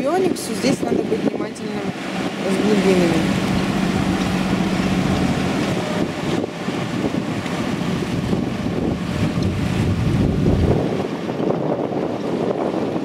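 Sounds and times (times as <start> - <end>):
water rushing along a hull: 0.0 - 13.0
wind buffeting the microphone: 0.0 - 13.0.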